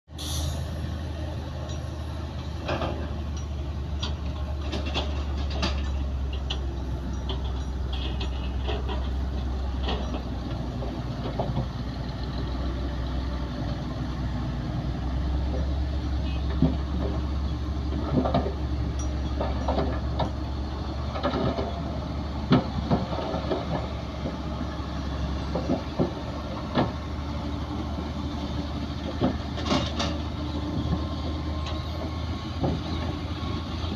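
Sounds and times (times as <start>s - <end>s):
heavy machinery diesel engines: 0.0s - 33.9s
metal clanks and knocks: 1.6s - 12.9s, 15.4s - 27.2s, 28.9s - 33.2s.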